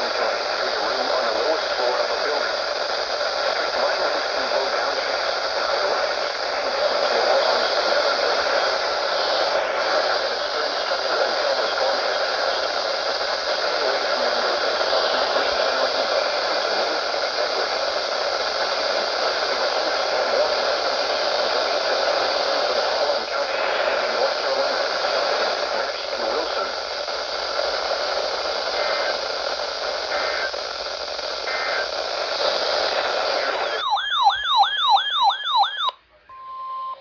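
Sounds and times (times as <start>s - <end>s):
radio static hiss: 0.0s - 36.3s.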